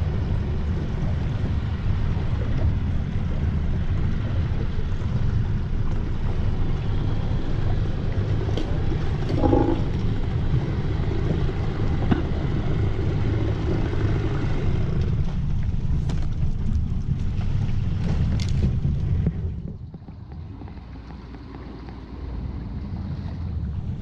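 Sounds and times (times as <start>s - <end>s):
boat motor low rumble: 0.0s - 24.0s.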